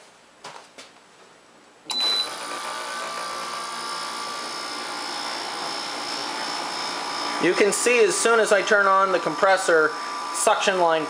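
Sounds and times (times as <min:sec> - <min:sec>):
air conditioner compressor whirring: 0:01.8 - 0:11.0.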